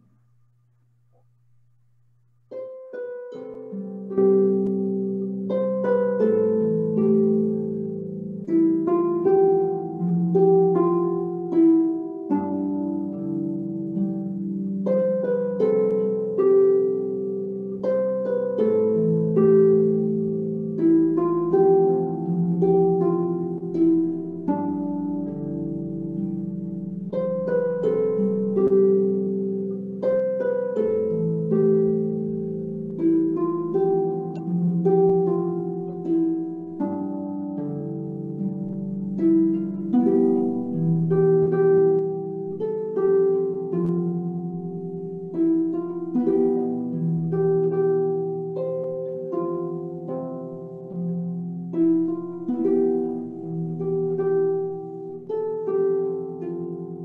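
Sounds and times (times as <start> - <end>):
harp playing slow melody: 2.4 - 57.0.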